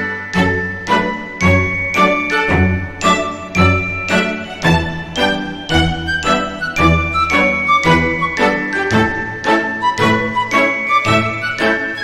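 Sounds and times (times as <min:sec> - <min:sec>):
tinkling bell-like tones: 0:00.0 - 0:12.0.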